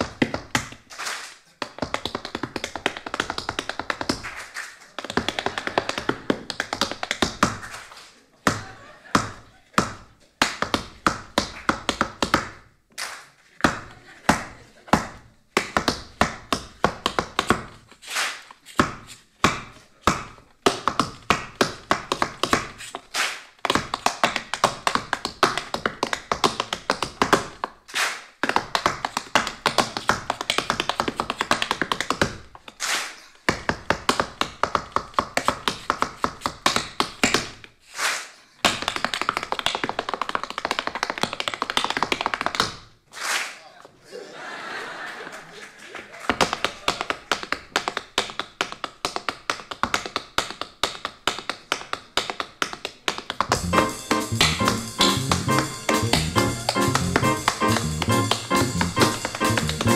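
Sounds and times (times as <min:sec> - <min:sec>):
tap shoes on wooden floor: 0:00.0 - 0:00.9, 0:01.6 - 0:04.4, 0:05.0 - 0:12.7, 0:13.6 - 0:27.8, 0:28.4 - 0:32.8, 0:33.4 - 0:37.8, 0:38.6 - 0:43.0, 0:46.3 - 0:59.9.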